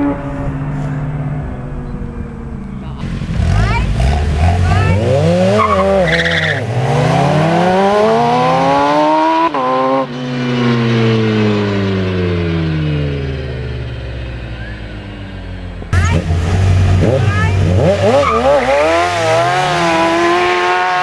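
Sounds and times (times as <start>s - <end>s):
engines revving at full throttle: 0.0s - 21.0s.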